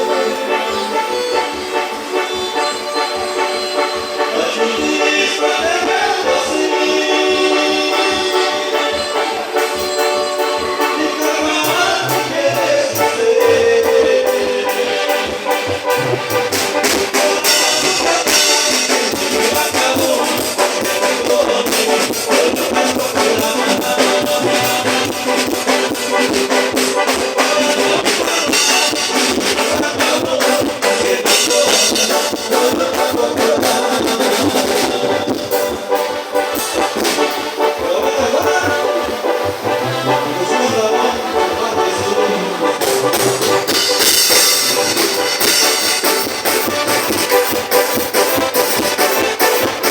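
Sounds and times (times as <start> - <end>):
brass band music: 0.0 - 49.9
steady drum beat: 9.8 - 49.9.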